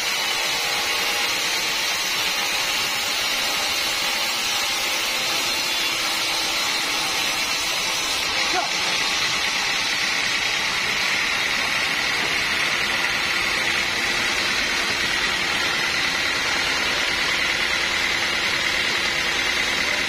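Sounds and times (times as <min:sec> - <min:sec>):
band saw cutting log: 0:00.0 - 0:20.0.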